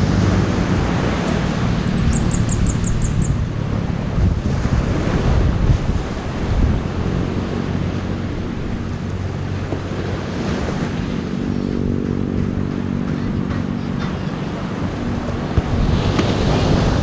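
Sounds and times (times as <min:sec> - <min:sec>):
sea waves: 0:00.0 - 0:17.0
wind buffeting microphone: 0:00.0 - 0:17.0.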